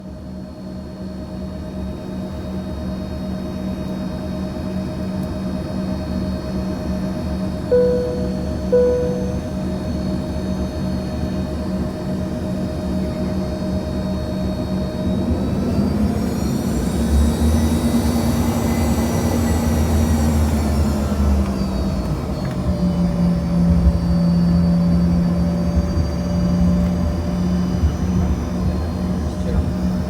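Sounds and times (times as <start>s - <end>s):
jet engines whine and rumble: 0.0s - 30.0s.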